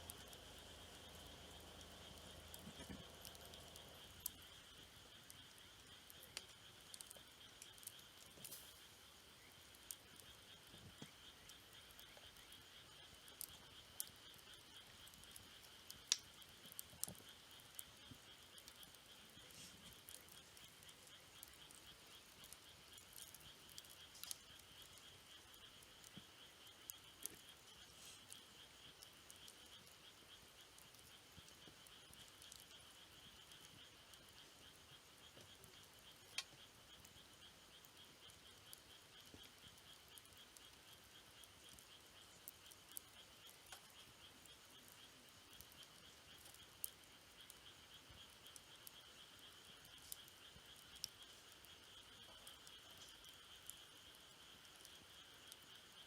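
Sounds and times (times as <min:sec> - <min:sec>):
campfire crackling: 0:00.0 - 0:56.0
high-pitched insect trill: 0:00.0 - 0:56.0.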